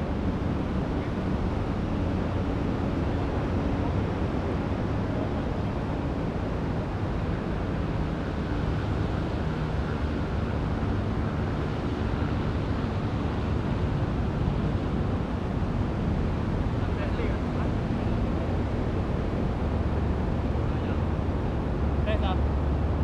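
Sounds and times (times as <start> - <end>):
low wind rumble on microphone: 0.0 - 23.0.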